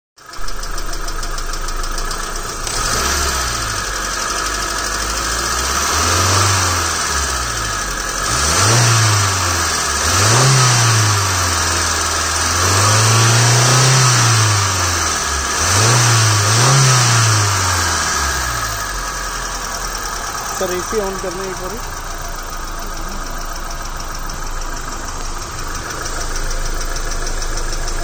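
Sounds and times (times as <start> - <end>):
car engine idling and revving: 0.2 - 28.0.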